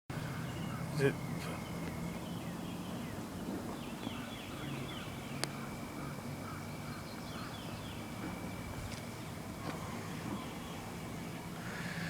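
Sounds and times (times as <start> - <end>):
birds chirping: 0.1 - 12.0
low background hum: 0.1 - 12.0.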